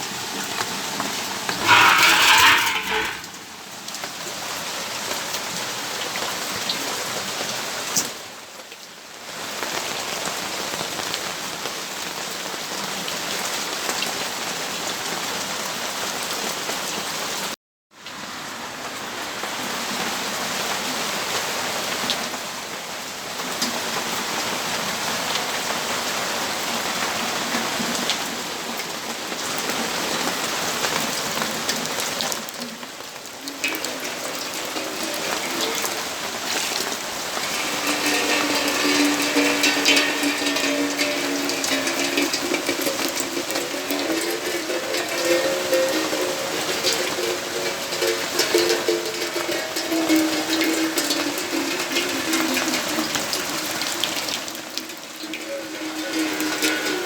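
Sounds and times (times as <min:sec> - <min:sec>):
rain falling on surfaces: 0:00.0 - 0:57.0.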